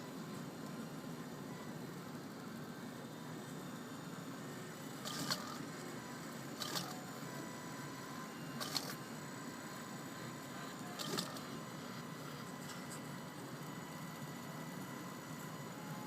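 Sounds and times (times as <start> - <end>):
printer motor whine: 0.0 - 16.0.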